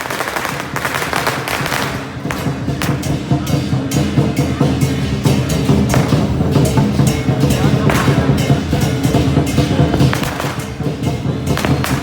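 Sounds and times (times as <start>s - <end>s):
drum-led festival music: 0.0s - 12.0s
firecrackers banging: 0.0s - 12.0s
firecrackers crackling: 0.0s - 12.0s.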